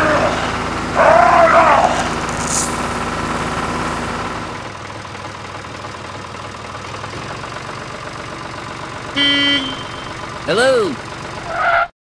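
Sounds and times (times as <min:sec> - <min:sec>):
tractor engine idling: 0:00.0 - 0:11.8.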